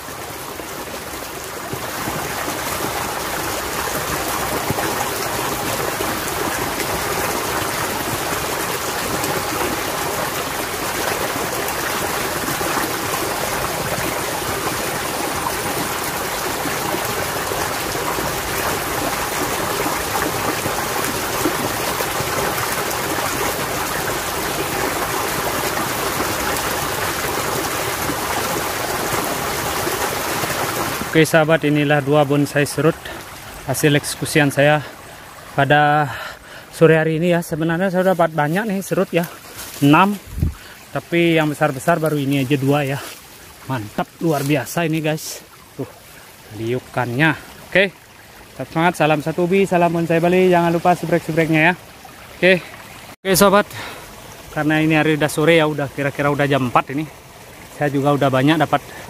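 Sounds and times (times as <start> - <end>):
water flowing in a ditch: 0.0 - 59.0.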